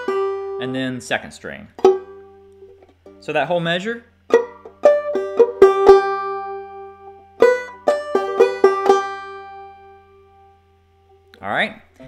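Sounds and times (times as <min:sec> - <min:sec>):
banjo plucked melody: 0:00.0 - 0:03.6, 0:04.3 - 0:11.2.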